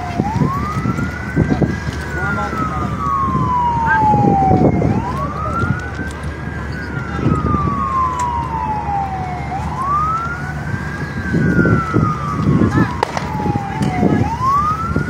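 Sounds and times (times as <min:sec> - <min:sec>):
emergency siren wailing: 0:00.0 - 0:15.0.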